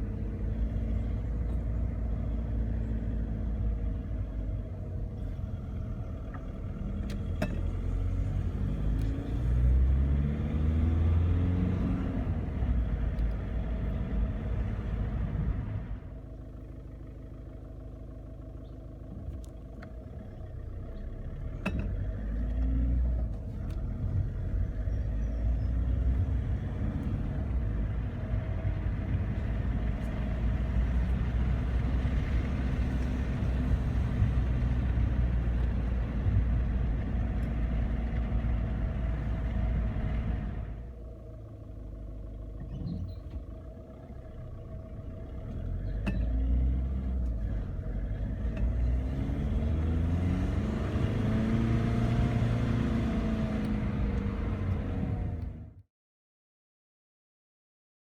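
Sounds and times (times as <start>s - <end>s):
diesel engine running: 0.0s - 55.8s.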